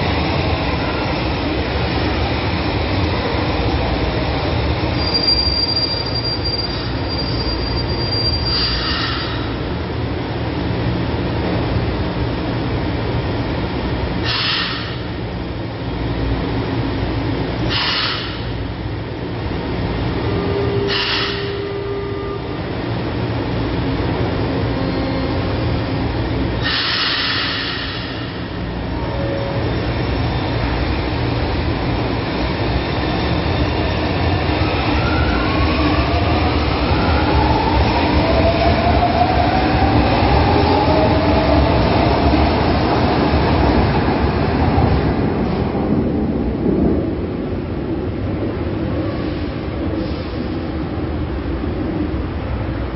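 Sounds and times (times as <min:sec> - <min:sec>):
train low hum: 0:00.0 - 0:52.9.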